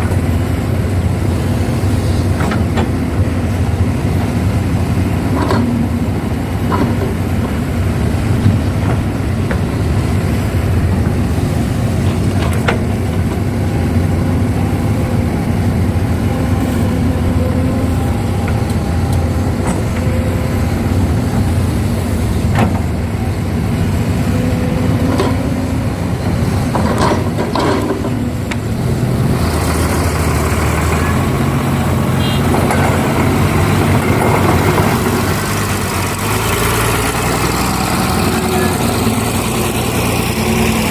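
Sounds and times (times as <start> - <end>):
heavy diesel engines running: 0.0 - 40.9
excavator knocks and clanks: 1.6 - 40.9.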